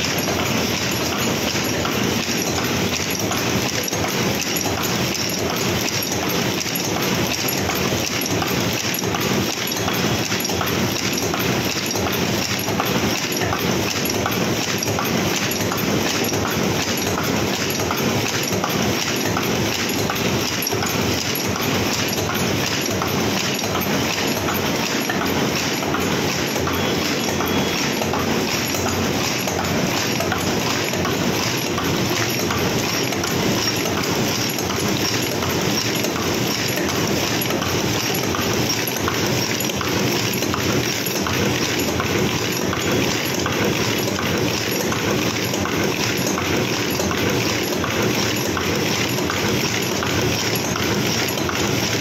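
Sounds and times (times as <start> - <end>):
machine rhythmic mechanical clatter: 0.0 - 52.0.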